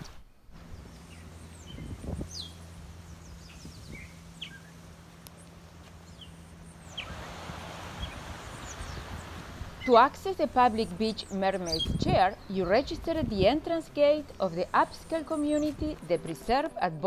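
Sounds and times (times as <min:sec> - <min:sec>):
steady low hum: 0:00.0 - 0:16.6
birds chirping: 0:00.2 - 0:17.0.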